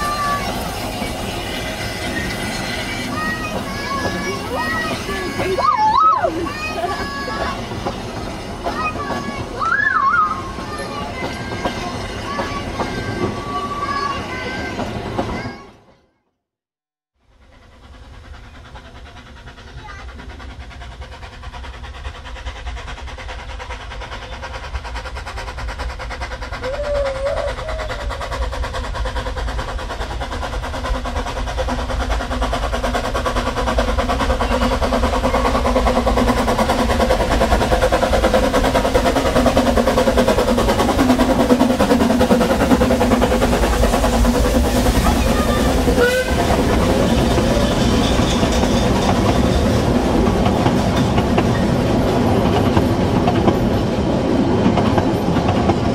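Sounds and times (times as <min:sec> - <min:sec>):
train coaches rolling past: 0:00.0 - 0:16.1, 0:17.2 - 0:55.9
steam locomotive approaching: 0:00.0 - 0:16.3, 0:17.2 - 0:55.9.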